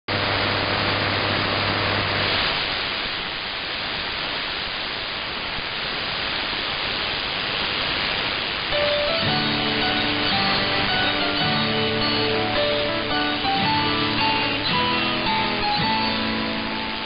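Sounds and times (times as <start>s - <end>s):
radio static and hiss: 0.1s - 17.0s.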